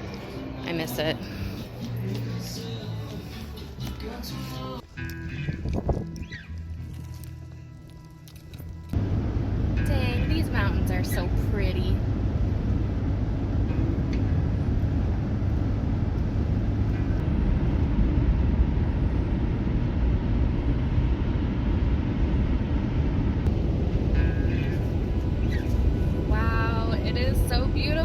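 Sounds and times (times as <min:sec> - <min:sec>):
van engine and road rumble: 0:00.0 - 0:28.0.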